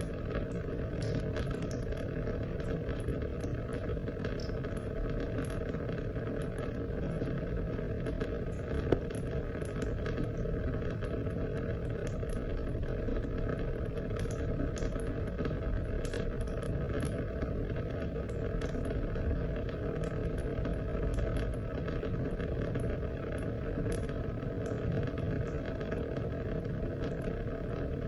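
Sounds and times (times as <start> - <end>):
raindrop ticks: 0.0 - 28.0
steady rain falling: 0.0 - 28.0.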